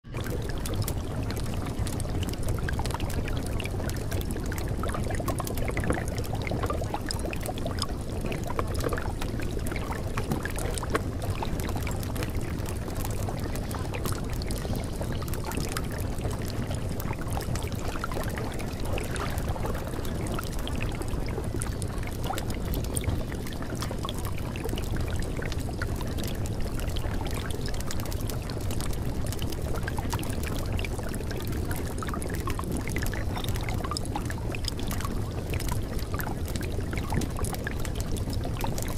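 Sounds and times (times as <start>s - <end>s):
running water: 0.0s - 38.9s
fine crackle: 0.1s - 38.9s.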